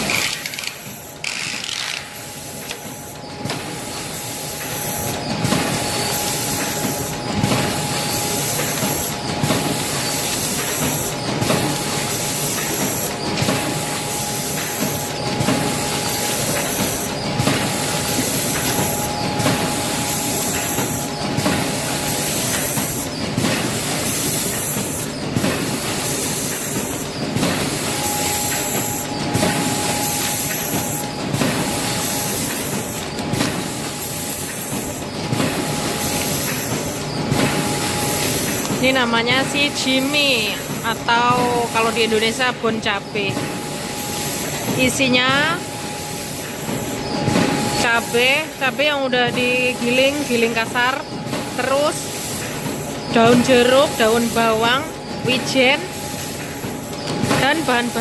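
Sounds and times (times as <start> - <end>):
packaging machine cycling: 0.0 - 58.0
thin steady whine: 0.0 - 58.0.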